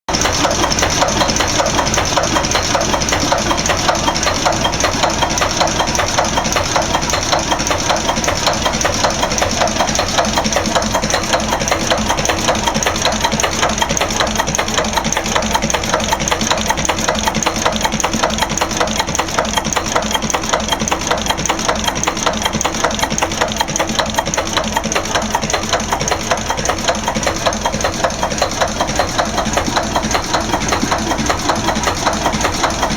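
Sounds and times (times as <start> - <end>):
marine engine running: 0.1 - 32.9.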